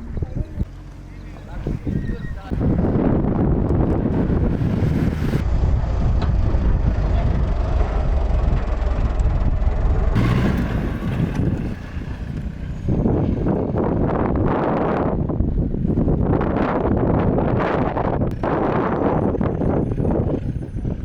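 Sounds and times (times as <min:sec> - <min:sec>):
vehicle engine low rumble: 0:00.0 - 0:21.0.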